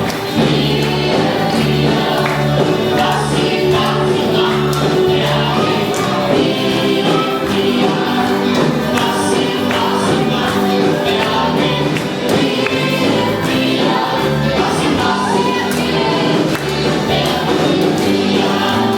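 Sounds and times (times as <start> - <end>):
band accompaniment: 0.0 - 18.9
vocal group singing gospel: 0.0 - 18.9.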